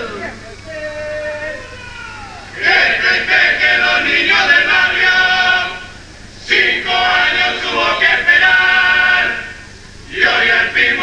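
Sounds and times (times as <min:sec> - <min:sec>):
men's chorus singing: 0:00.0 - 0:11.0.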